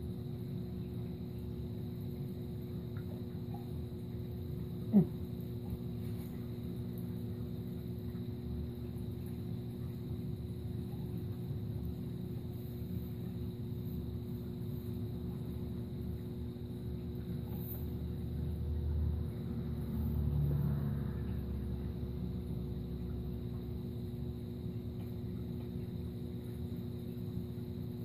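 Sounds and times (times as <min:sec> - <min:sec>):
aquarium pumps humming: 0:00.0 - 0:28.0.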